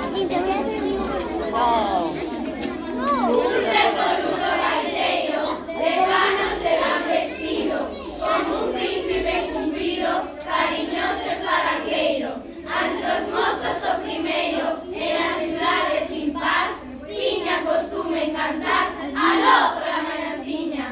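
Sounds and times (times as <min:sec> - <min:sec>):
children singing together: 0:00.0 - 0:20.9.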